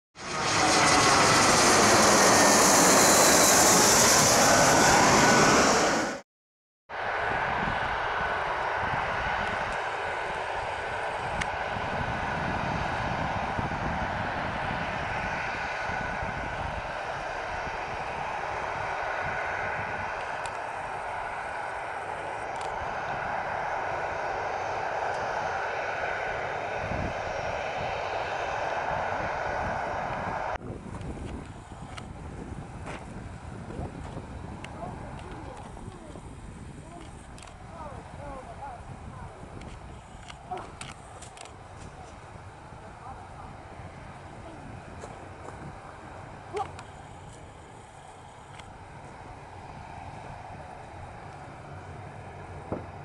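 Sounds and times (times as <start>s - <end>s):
jet airliner flying overhead: 0.2s - 6.2s, 6.9s - 53.0s.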